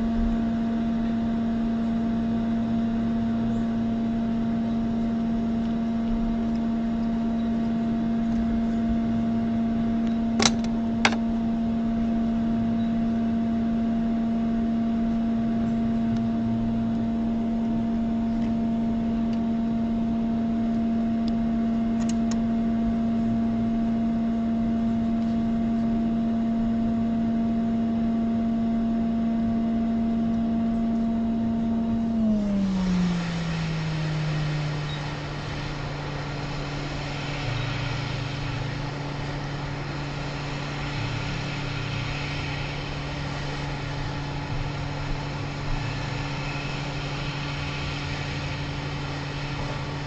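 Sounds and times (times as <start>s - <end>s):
hot air blower humming: 0.0s - 50.0s.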